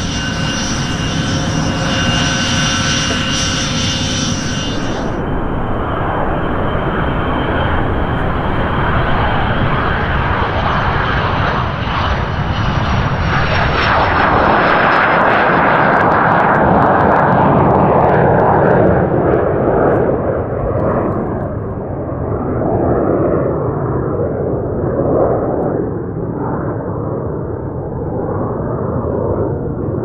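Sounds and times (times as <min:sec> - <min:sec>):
jet engine whine: 0:00.0 - 0:30.0
jet rumble: 0:00.0 - 0:30.0.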